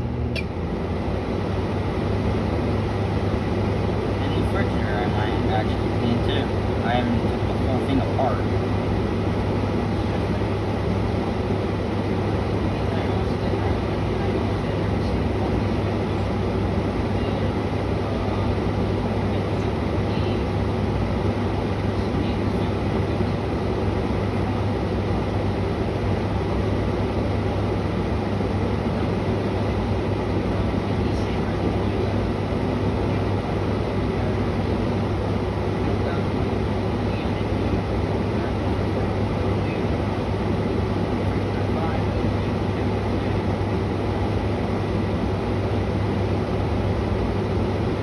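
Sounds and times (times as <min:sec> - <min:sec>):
air conditioner running: 0:00.0 - 0:48.0.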